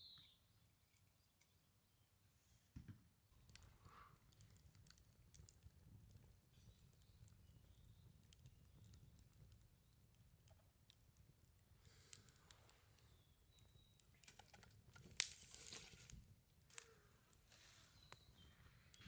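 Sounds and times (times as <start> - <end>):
small clicks and ticks: 3.3 - 19.0.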